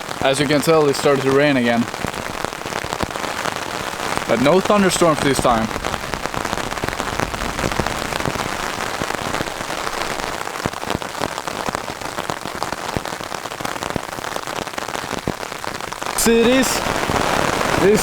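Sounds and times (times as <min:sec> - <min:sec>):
sharp raindrop hits: 0:00.0 - 0:18.0
steady rain falling: 0:00.0 - 0:18.0.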